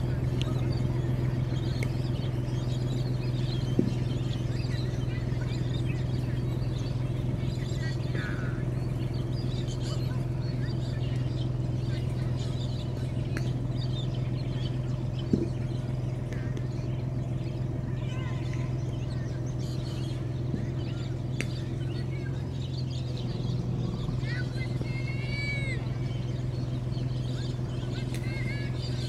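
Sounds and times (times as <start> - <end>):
birds chirping: 0.0 - 29.0
vehicle engine idling: 0.0 - 29.0.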